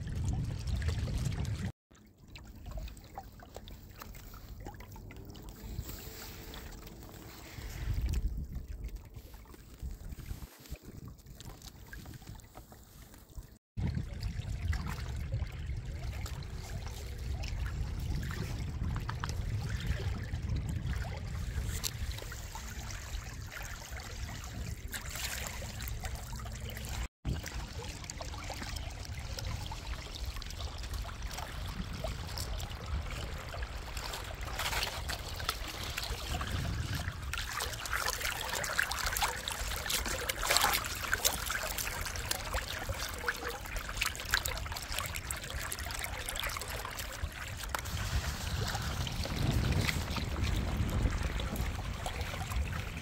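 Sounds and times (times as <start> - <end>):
water splashing along boat hull: 0.0 - 53.0.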